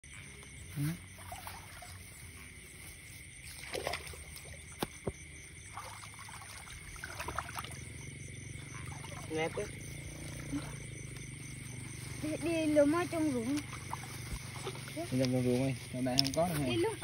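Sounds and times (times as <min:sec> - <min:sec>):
feet wading in muddy water: 0:00.7 - 0:17.0.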